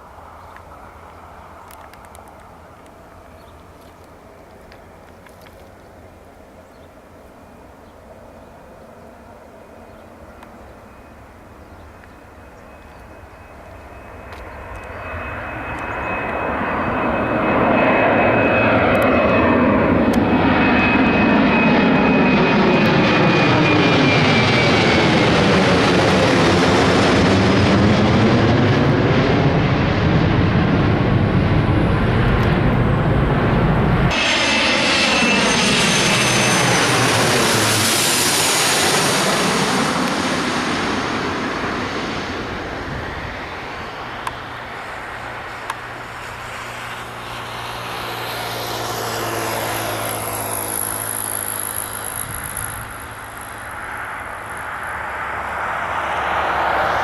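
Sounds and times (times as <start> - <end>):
high engine whine: 0.0 - 57.0
jet airliner engine noise: 0.0 - 57.0.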